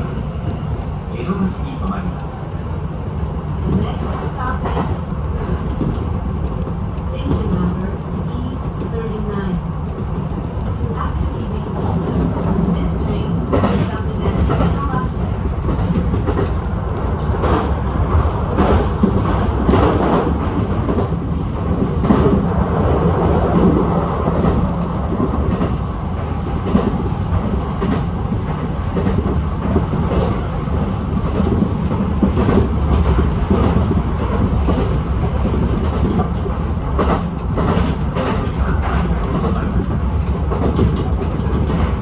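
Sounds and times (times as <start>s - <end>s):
train wheels rumbling on rails: 0.0s - 42.0s
clickety-clack of rail joints: 3.5s - 42.0s.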